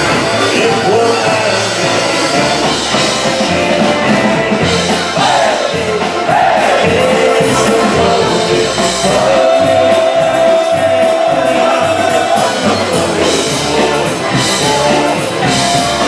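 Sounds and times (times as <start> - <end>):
bouncing bass beat: 0.0 - 16.0
polka band playing: 0.0 - 16.0.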